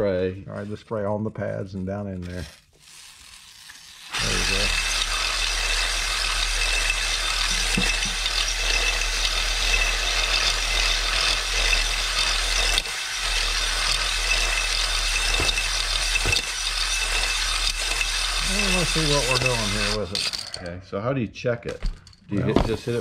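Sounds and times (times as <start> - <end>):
hone grinding in cylinder: 2.2 - 20.8, 21.7 - 23.0
drill high whine: 2.4 - 20.6, 22.3 - 23.0.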